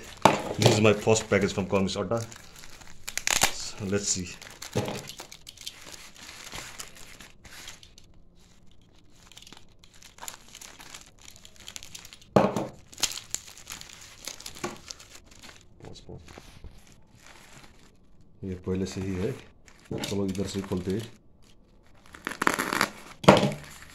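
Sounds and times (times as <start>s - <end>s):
mailing package crinkling: 0.0s - 23.9s.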